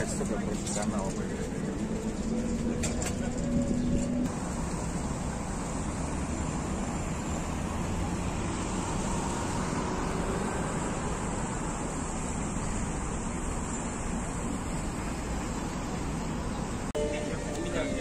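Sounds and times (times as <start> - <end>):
faint engine hum: 0.0 - 18.0
street traffic passing cars: 0.0 - 18.0.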